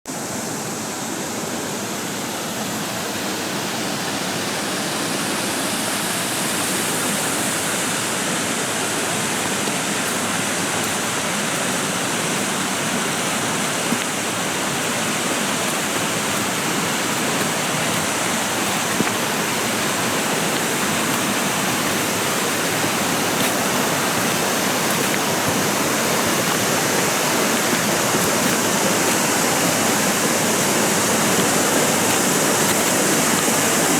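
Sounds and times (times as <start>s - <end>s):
stream rushing over rocks: 0.1s - 33.9s.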